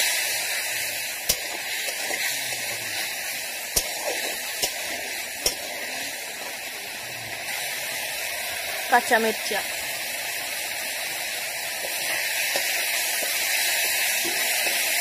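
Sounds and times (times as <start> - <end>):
masala sizzling and bubbling: 0.0 - 15.0.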